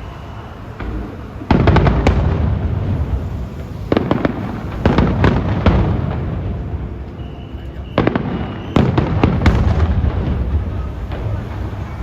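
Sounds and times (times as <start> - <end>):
fireworks booms and cracks: 0.0 - 12.0.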